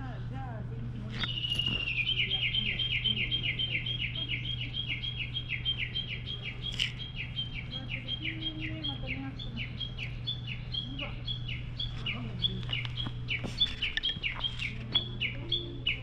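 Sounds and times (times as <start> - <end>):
low hum: 0.0 - 16.0
bird chirping: 1.1 - 16.0.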